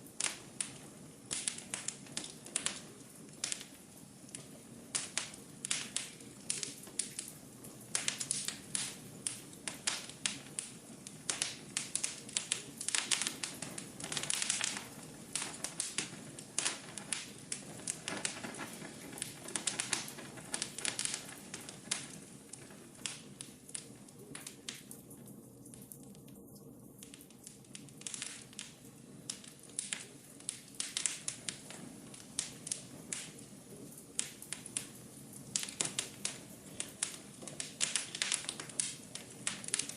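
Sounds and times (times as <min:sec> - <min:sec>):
low hiss of fire: 0:00.0 - 0:39.9
sharp pops and snaps: 0:00.0 - 0:39.9
wood fire crackling: 0:00.0 - 0:39.9.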